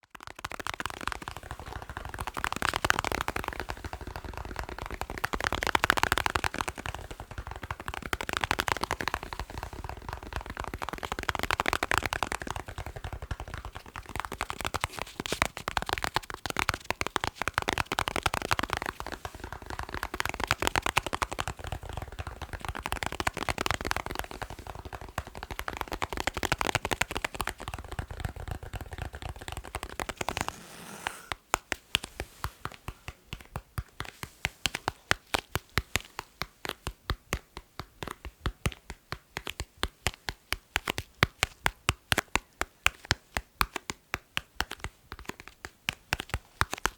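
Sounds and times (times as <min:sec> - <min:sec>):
fast dense tapping: 0:00.1 - 0:46.9.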